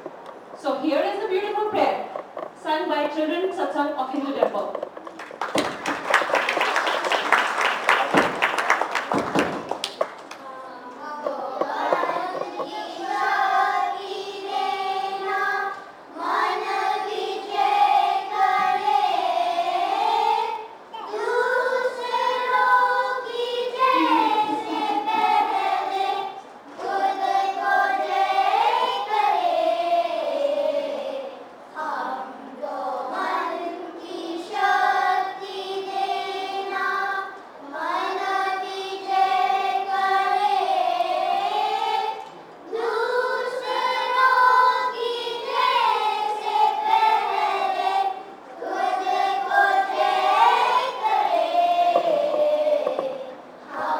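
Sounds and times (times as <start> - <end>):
children singing a prayer: 10.4 - 53.9.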